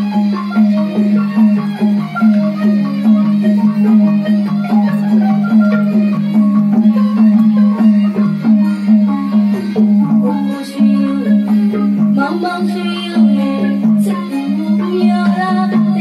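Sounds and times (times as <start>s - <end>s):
fast tuned percussion melody: 0.0s - 16.0s.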